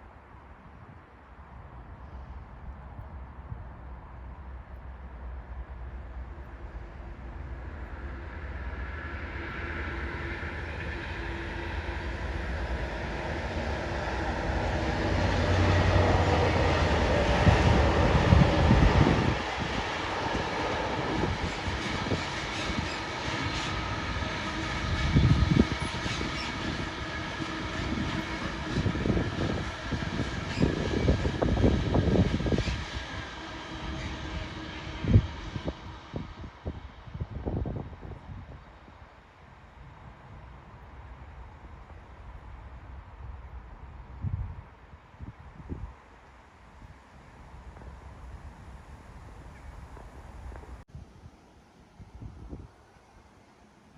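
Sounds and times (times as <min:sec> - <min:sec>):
diesel locomotive engine: 0:00.6 - 0:50.9.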